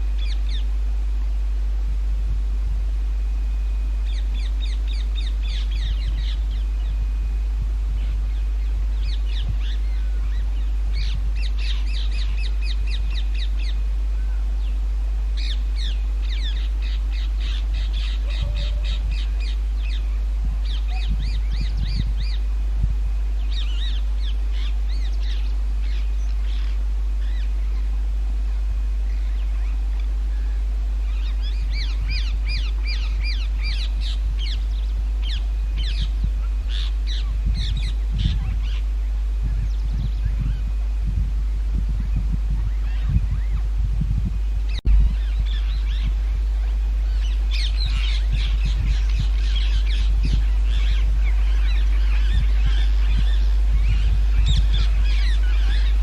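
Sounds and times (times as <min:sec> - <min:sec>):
parakeets calling shrilly: 0:00.0 - 0:00.8, 0:03.1 - 0:56.0
low rumble: 0:00.0 - 0:56.0.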